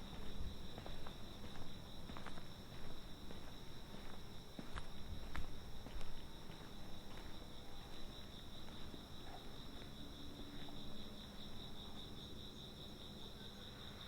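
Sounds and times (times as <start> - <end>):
faint footsteps on pavement: 0.0 - 12.5
insects chirping trill: 0.0 - 14.0.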